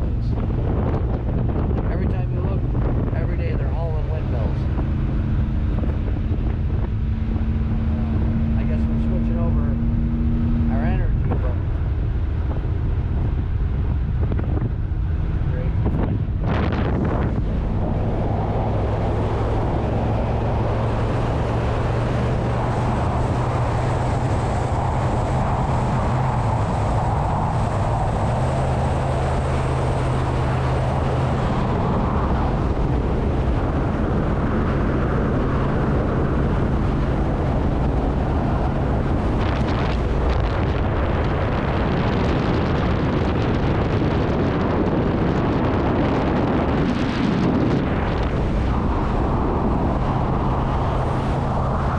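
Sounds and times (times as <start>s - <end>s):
vehicle engine and road noise: 0.0s - 51.9s.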